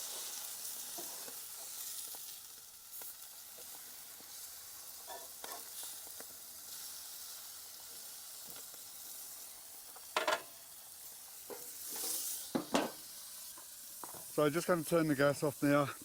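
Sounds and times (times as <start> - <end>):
food sizzling on hot plate: 0.0 - 16.0.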